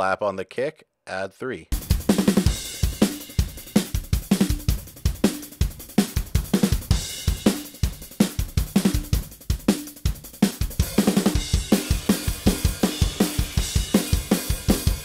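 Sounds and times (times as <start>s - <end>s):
rock drum beat: 1.7s - 15.0s.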